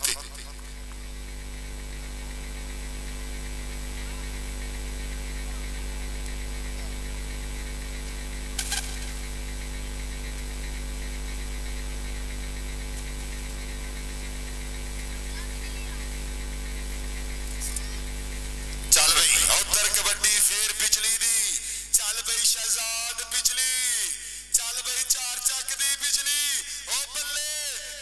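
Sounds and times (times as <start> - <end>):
static crackle: 0.0 - 22.5
electrical mains hum: 0.0 - 28.0.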